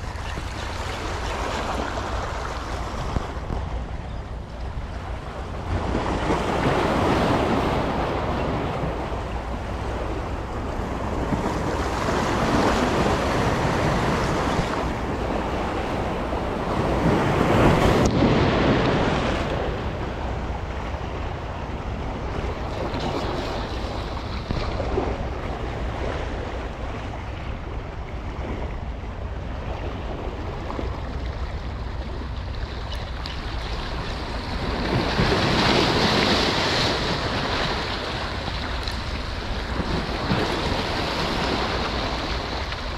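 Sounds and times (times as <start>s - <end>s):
wind rumble on microphone: 0.0s - 42.9s
sea waves washing against rocks: 4.8s - 42.9s.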